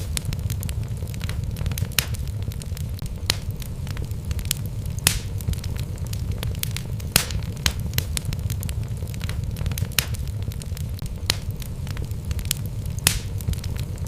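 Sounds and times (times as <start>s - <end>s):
logs crackling in fireplace: 0.0s - 14.0s
low fire rumble: 0.0s - 14.0s.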